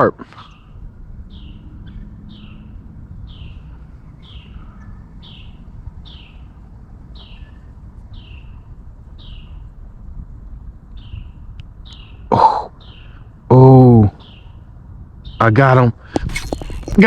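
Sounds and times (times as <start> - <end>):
low outdoor rumble: 0.6 - 17.0.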